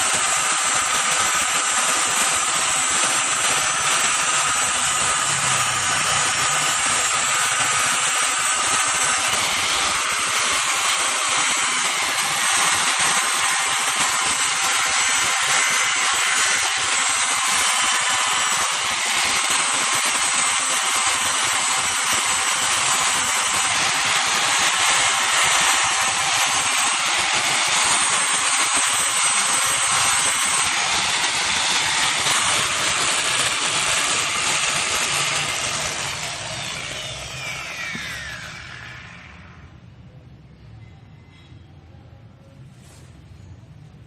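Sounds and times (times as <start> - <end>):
power tool hissing whine: 0.0 - 39.7.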